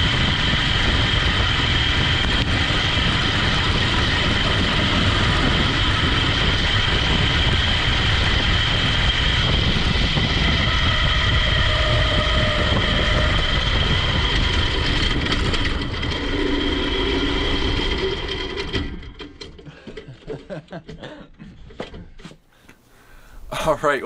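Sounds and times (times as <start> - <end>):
small engine running: 0.0 - 20.2.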